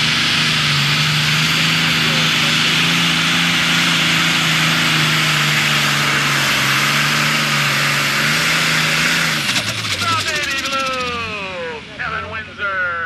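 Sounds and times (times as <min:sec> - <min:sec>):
diesel engine running flat out: 0:00.0 - 0:13.0.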